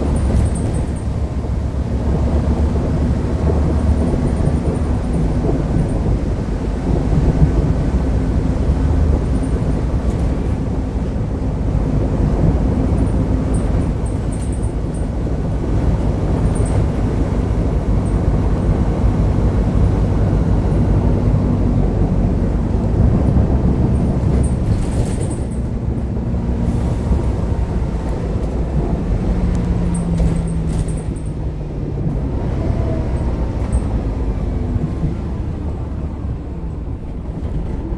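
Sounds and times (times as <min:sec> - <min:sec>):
bus engine rumbling: 0:00.0 - 0:37.9.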